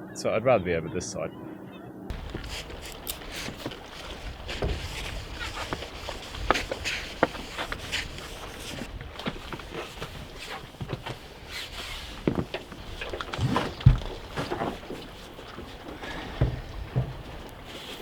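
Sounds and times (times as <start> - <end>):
footsteps on boat deck: 2.1 - 18.0
knocks and clicks of handling: 2.1 - 18.0.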